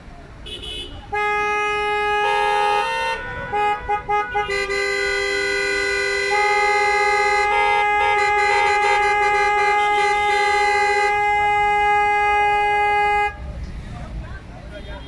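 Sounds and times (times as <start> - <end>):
car horns honking: 0.0 - 13.5, 14.7 - 15.0.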